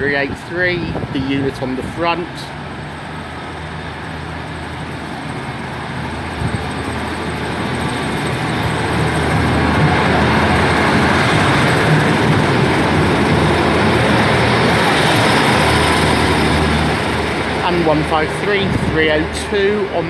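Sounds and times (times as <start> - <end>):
diesel railcar engines humming: 0.0 - 20.0
rail noise: 0.0 - 20.0.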